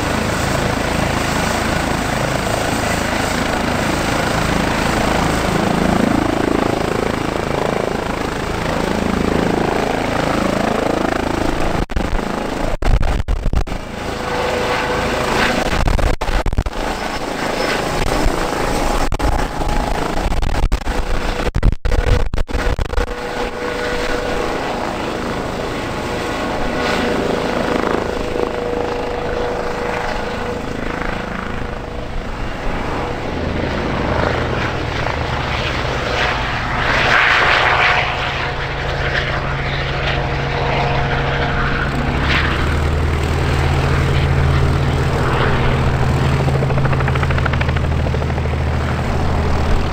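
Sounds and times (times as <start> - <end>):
helicopter rotor: 0.0 - 49.9.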